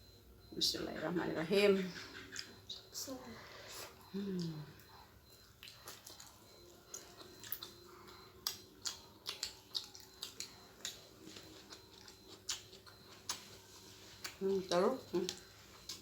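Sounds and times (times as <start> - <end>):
wet chewing mouth sounds: 2.0 - 2.9, 3.7 - 16.0.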